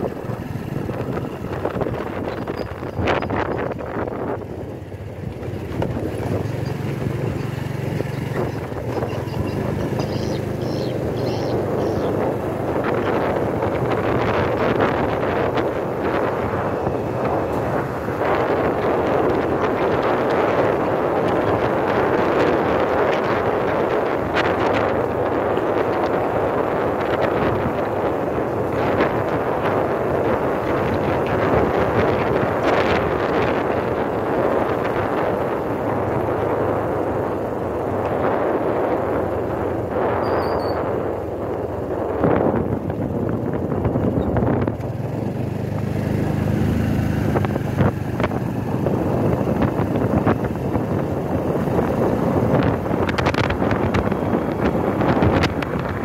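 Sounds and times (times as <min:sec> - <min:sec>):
vehicle running noise: 0:00.0 - 0:56.0
wind buffeting microphone: 0:00.0 - 0:56.0.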